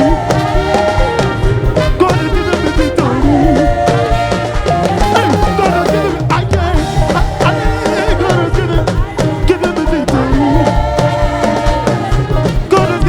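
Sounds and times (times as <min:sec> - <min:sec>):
drums and percussion beat: 0:00.0 - 0:13.0
live band playing worship music: 0:00.0 - 0:13.0.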